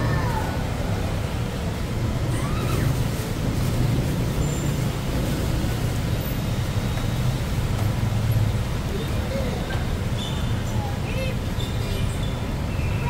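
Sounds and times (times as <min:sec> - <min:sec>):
road traffic on wet road: 0:00.0 - 0:13.0
tyre noise on wet road: 0:00.0 - 0:13.0.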